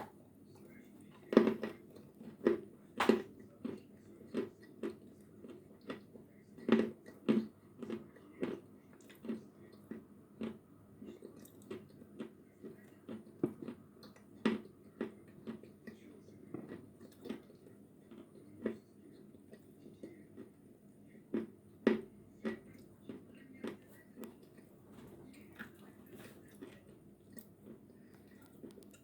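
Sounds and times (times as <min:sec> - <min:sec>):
chalk crunching while chewed: 0:00.0 - 0:20.6, 0:21.3 - 0:29.0.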